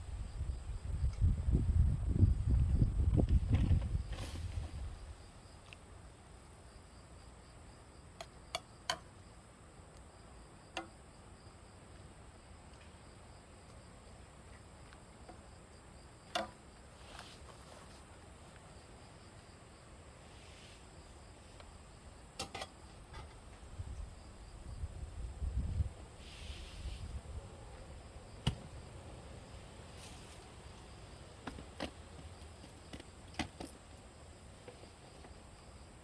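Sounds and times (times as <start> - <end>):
faint pulsing insect chirp: 0.0 - 36.0
insects trilling: 0.0 - 36.0.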